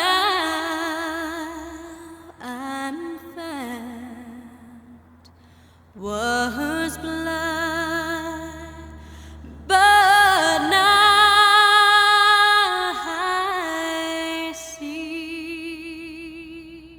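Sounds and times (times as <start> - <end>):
woman singing with vibrato: 0.0 - 5.2, 6.0 - 16.9
low sustained drone: 0.0 - 16.3.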